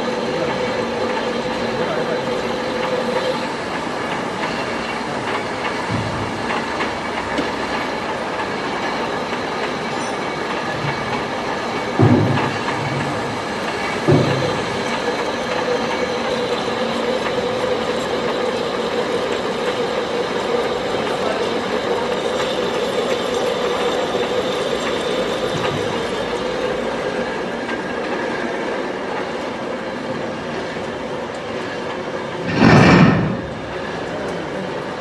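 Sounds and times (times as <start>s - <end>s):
lathe gears whirring: 0.0s - 35.0s.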